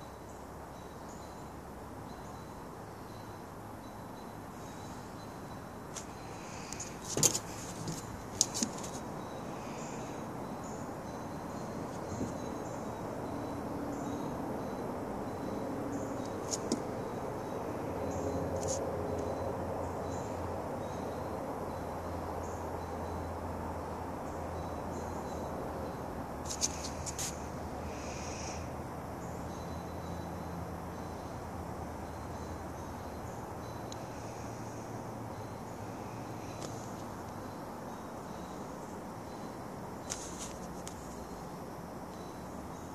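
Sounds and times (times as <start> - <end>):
outdoor background noise: 0.0 - 42.9.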